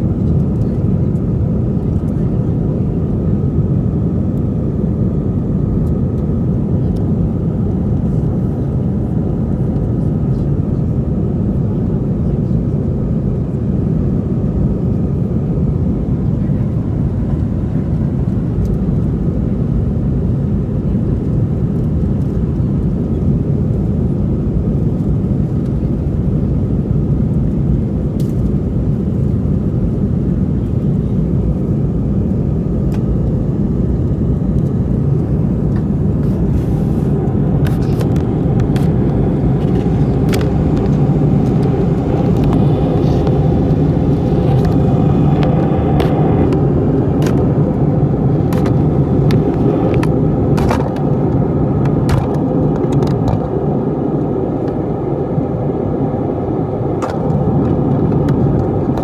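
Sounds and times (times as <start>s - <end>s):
airliner engine rumble: 0.0s - 59.0s.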